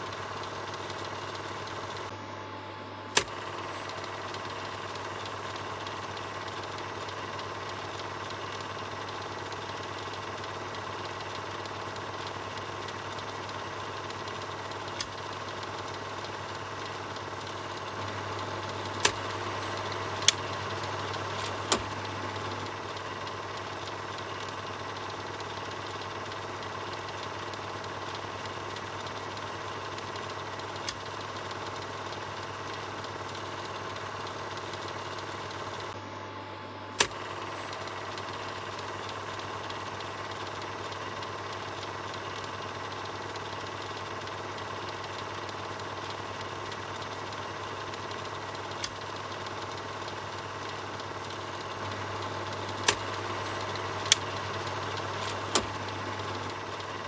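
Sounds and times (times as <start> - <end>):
film projector whirring: 0.0 - 57.0
sharp clicks: 3.1 - 36.0, 37.0 - 57.0.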